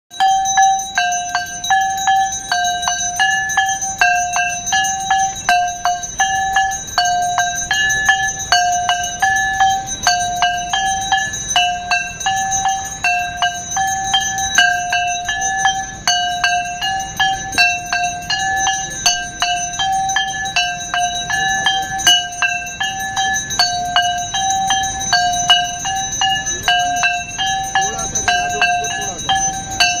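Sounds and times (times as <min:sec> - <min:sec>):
ringing bells: 0:00.1 - 0:30.0
two-note ringing tone: 0:00.1 - 0:30.0.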